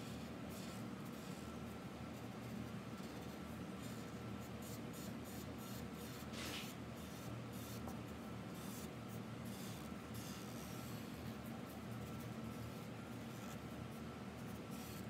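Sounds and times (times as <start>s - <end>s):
marker scratching on paper: 0.0s - 1.5s, 2.2s - 8.0s, 8.6s - 11.1s, 11.7s - 15.0s
steady low hum: 0.0s - 15.0s.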